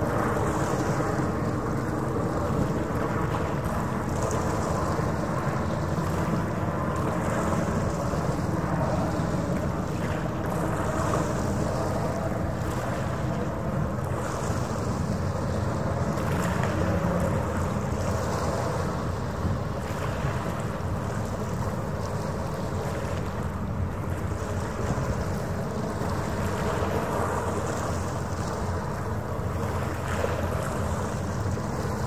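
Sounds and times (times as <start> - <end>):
ferry engine drone: 0.0 - 32.0.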